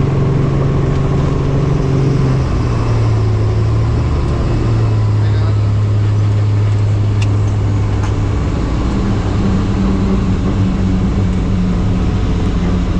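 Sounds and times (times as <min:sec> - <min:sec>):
helicopter engine and rotors: 0:00.0 - 0:12.9.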